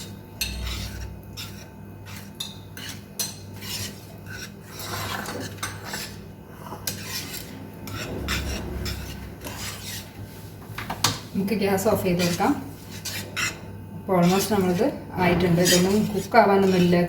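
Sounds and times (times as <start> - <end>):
spoon scraping a saucepan: 0.0 - 17.0.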